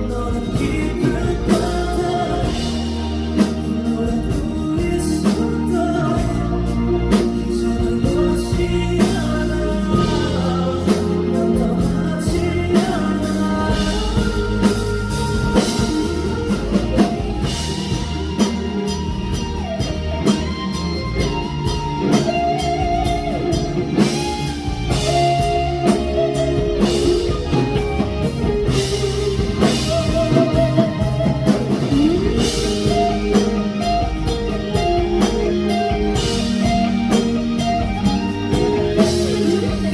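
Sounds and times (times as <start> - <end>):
live band with drums and guitar: 0.0 - 39.9
person singing: 0.0 - 39.9.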